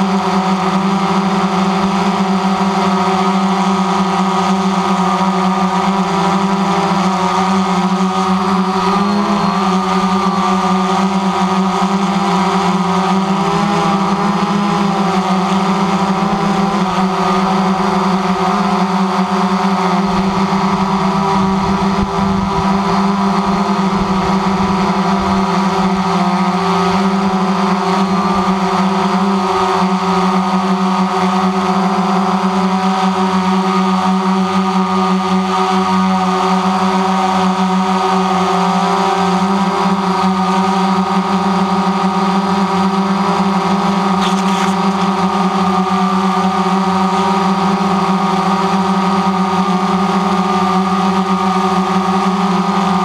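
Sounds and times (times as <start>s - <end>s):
drone propellers buzzing: 0.0s - 53.0s.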